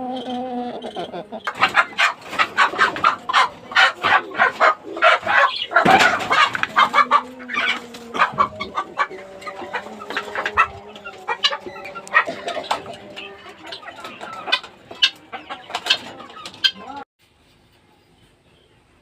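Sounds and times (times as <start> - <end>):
drawn-out chicken call: 0.0 - 17.0
chickens clucking: 0.0 - 17.1.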